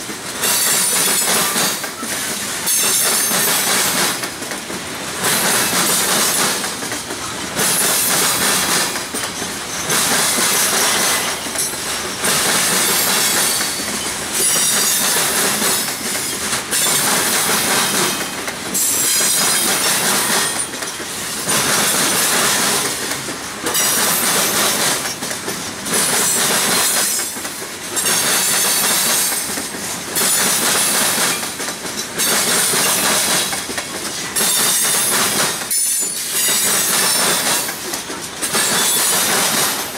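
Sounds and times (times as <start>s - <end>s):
train wheels banging over rail gaps: 0.0s - 39.9s.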